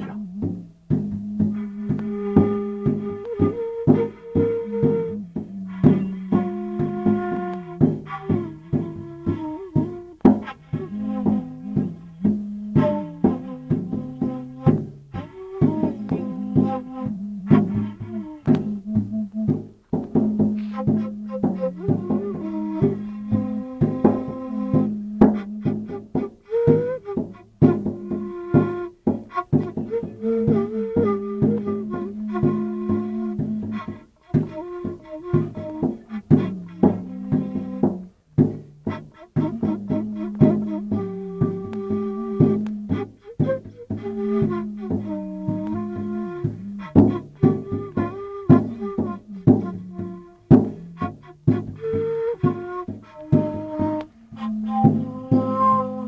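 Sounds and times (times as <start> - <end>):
droning instrument: 0.0 - 56.0
higher melody notes: 0.0 - 56.0
percussive strikes: 0.0 - 56.0.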